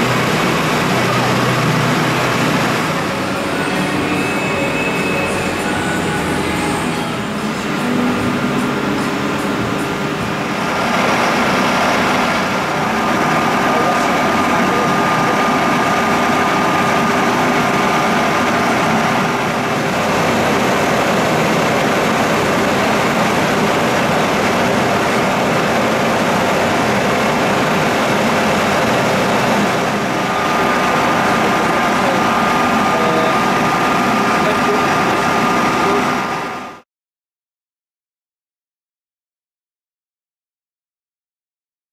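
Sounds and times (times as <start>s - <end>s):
boring machine whirring: 0.0s - 36.8s.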